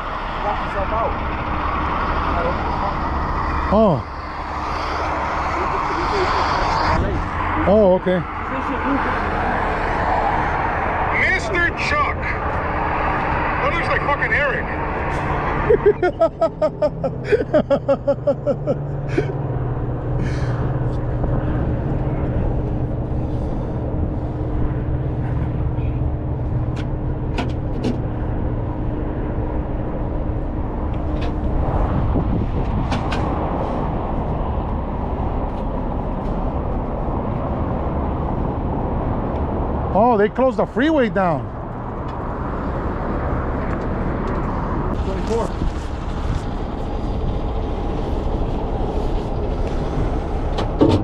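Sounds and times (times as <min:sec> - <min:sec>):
heavy truck engine and road noise: 0:00.0 - 0:51.0.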